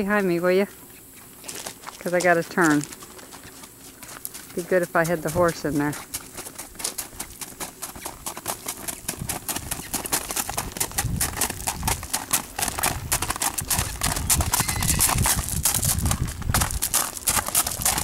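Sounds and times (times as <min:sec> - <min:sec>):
hoofbeats on gravel: 0:00.0 - 0:18.0.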